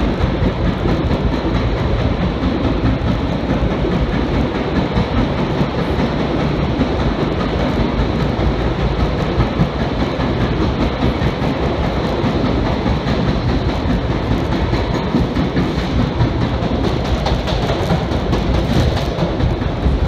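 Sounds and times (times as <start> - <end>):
steel wheels on rails: 0.0 - 20.0.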